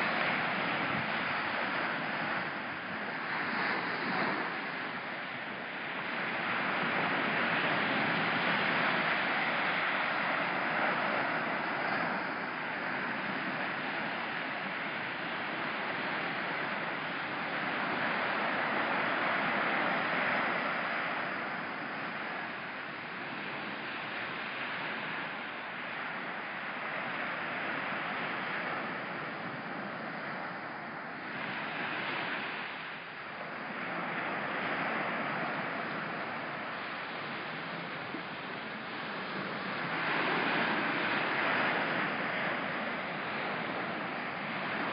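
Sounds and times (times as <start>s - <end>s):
ocean surf washing ashore: 0.0s - 44.9s.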